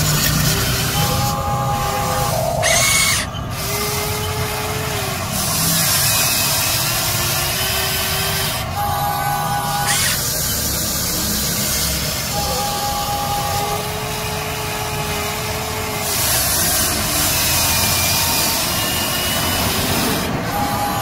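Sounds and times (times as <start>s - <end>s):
brief motor whines: 0.0s - 21.0s
toy excavator motors whirring: 0.0s - 21.0s.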